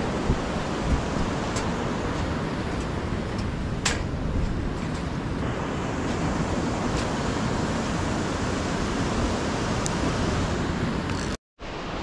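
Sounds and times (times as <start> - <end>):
white water rushing: 0.0 - 12.0.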